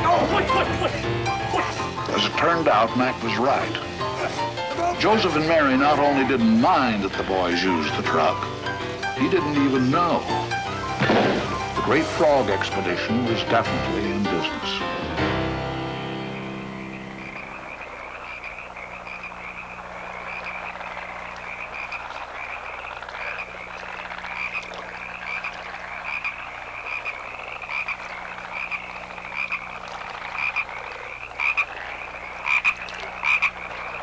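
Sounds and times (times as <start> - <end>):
frogs chirping: 0.9 - 34.0.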